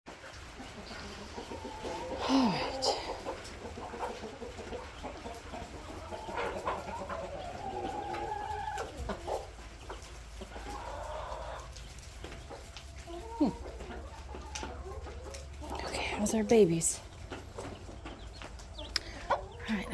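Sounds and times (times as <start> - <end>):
chickens clucking: 0.1 - 19.9.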